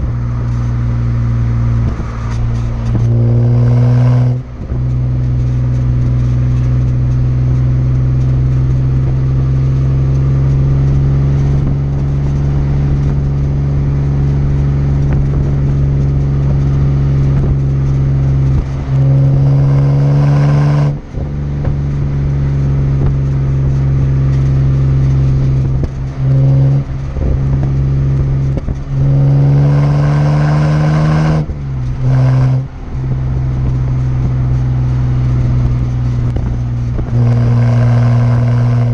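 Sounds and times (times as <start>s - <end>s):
car exhaust deep drone: 0.0s - 38.9s.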